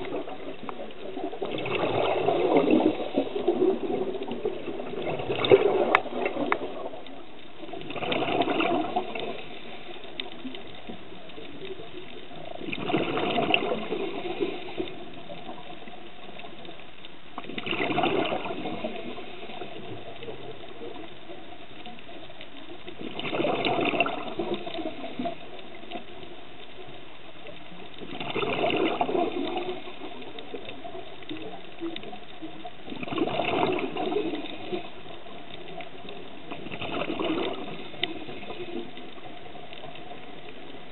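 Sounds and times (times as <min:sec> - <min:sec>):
regulator bubbles rushing: 0:00.0 - 0:16.7, 0:17.4 - 0:21.5, 0:22.8 - 0:26.4, 0:28.0 - 0:40.9
low steady hiss: 0:00.0 - 0:40.9.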